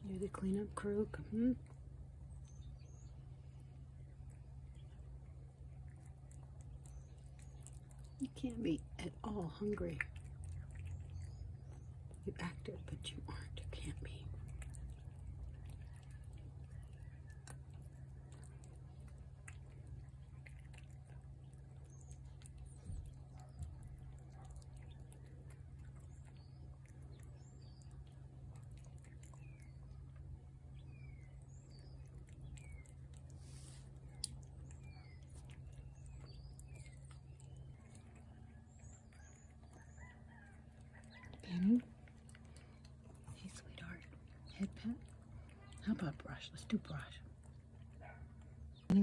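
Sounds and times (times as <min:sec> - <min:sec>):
small birds chirping: 0:00.0 - 0:49.0
steady low hum: 0:00.0 - 0:49.0
cat chewing wet food: 0:01.6 - 0:49.0.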